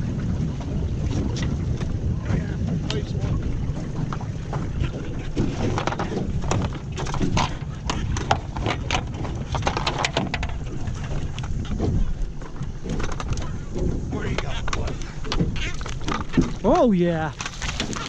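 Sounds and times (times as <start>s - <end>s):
wind rumbling on microphone: 0.0s - 18.0s
knocks and clatter on metal boat deck: 0.1s - 18.0s.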